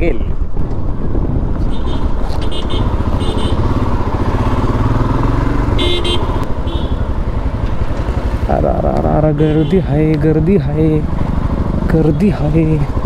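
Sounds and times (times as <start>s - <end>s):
motorcycle engine running: 0.4s - 13.0s.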